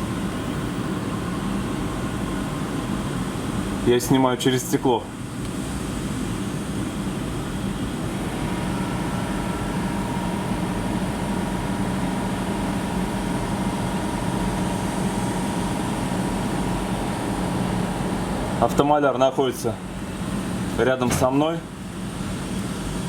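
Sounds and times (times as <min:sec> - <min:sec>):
ventilation fans rushing air: 0:00.0 - 0:23.0.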